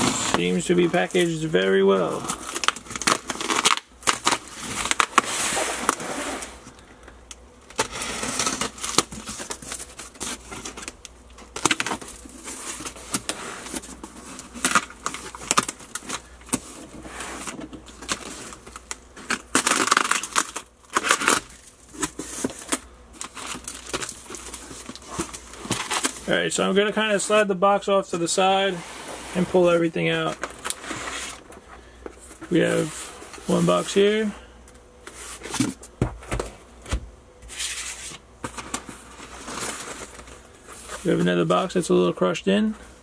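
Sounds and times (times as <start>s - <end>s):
packing material crinkling: 0.0s - 6.8s, 7.7s - 27.5s, 28.1s - 31.6s, 37.6s - 42.0s.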